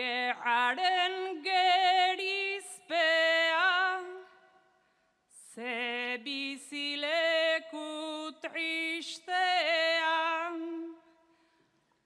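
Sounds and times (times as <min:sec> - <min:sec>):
woman singing unaccompanied: 0:00.0 - 0:04.3, 0:05.4 - 0:11.1.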